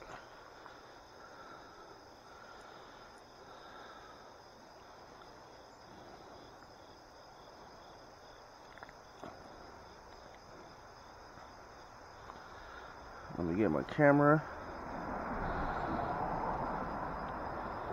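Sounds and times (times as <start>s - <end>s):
insects trilling: 0.0s - 17.9s.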